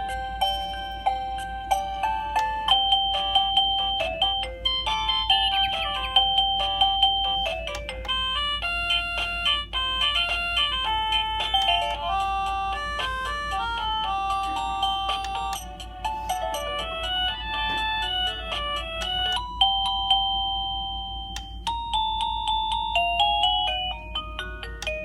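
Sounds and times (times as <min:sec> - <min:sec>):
doorbell electronic chime melodies: 0:00.0 - 0:25.0.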